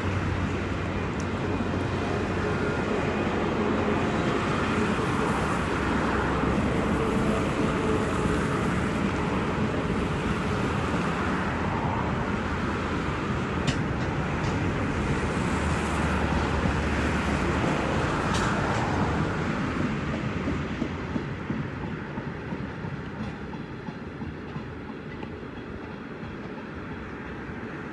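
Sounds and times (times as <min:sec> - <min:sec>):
train wheels rumbling and clattering: 0:00.0 - 0:27.9.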